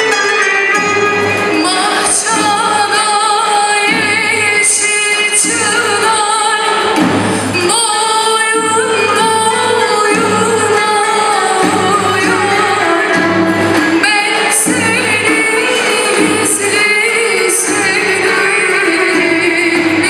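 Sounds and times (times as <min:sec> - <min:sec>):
folk ensemble playing: 0:00.0 - 0:20.0
plucked strings: 0:00.0 - 0:20.0
woman singing: 0:00.0 - 0:20.0.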